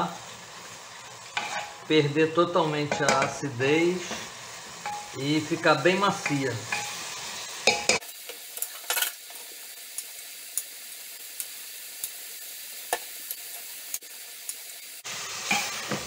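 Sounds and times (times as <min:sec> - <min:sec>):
onion rings frying in fat: 0:00.0 - 0:16.0
pops and crackles of frying: 0:00.0 - 0:16.0.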